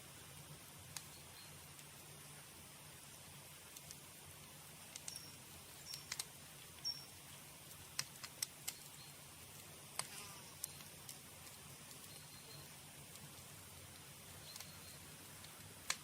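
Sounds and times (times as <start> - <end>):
campfire crackling and popping: 0.0 - 16.0
faint steady fire hiss: 0.0 - 16.0.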